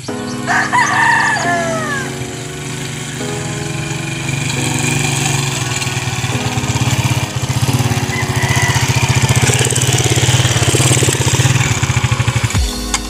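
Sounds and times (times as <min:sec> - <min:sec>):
motorcycle engine at low revs: 0:02.1 - 0:12.6.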